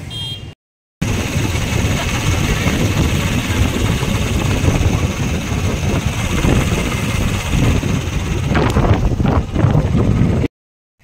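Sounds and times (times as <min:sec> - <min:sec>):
motorcycle engine low rumble: 0:00.0 - 0:10.5
wind buffeting microphone: 0:01.0 - 0:10.5.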